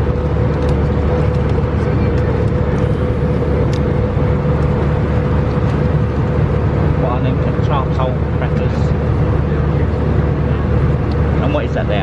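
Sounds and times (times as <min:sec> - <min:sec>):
aircraft cabin engine rumble: 0:00.0 - 0:12.0
constant hum: 0:00.0 - 0:12.0.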